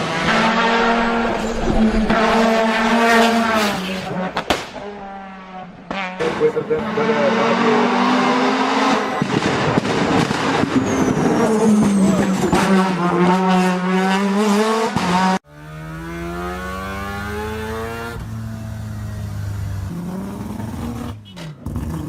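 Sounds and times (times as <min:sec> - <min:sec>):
loud rotary engine revving: 0:00.0 - 0:10.6, 0:12.5 - 0:21.0.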